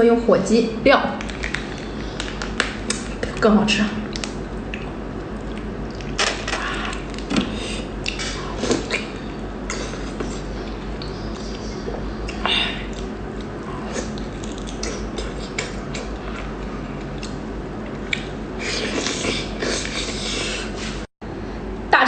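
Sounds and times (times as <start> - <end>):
wet chewing: 1.2 - 20.4.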